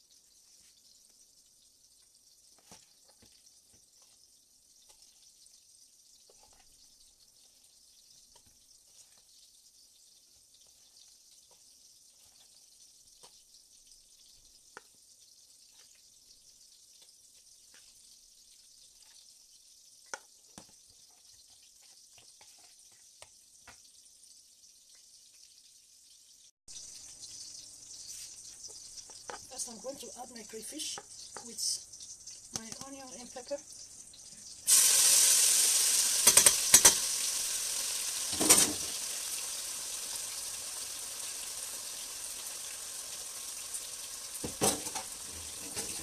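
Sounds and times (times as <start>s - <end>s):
faint steady hiss: 0.0s - 46.0s
oil sizzling in a pot: 0.0s - 46.0s.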